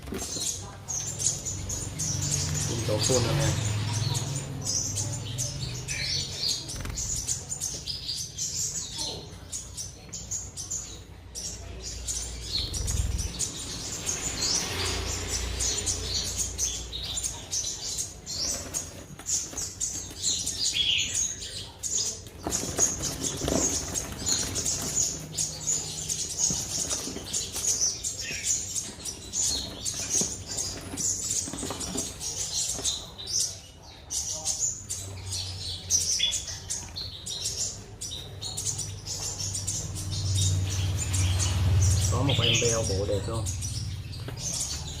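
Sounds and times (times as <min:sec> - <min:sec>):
bird singing high twitters: 0:00.0 - 0:45.0.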